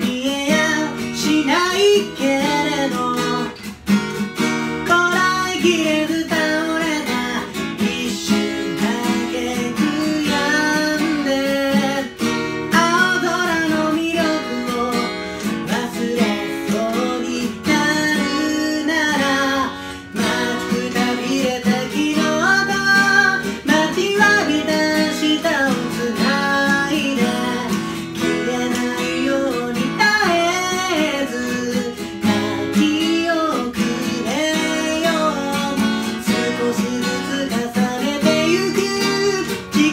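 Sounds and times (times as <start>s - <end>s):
person singing: 0.0s - 3.9s, 4.6s - 39.9s
strummed acoustic guitar: 0.0s - 39.9s.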